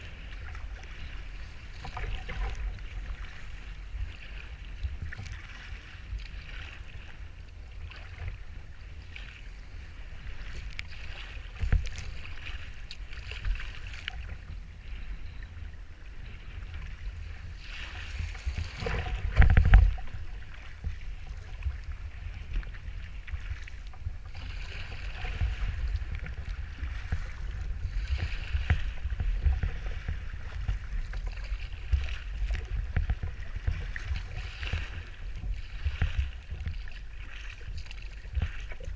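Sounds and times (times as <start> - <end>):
water splashing around hull: 0.0 - 38.9
wave washing over bow: 0.0 - 38.9
wind buffeting microphone: 0.0 - 38.9.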